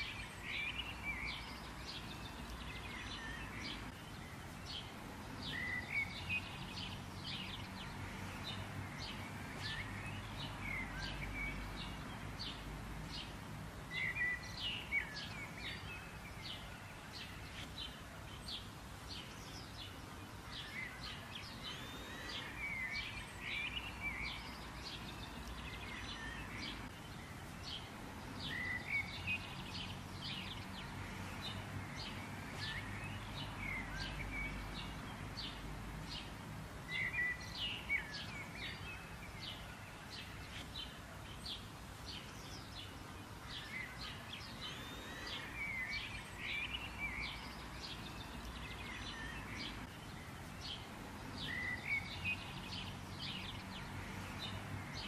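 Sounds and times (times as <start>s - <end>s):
low outdoor background noise: 0.0s - 55.0s
small birds chirping: 0.0s - 55.0s.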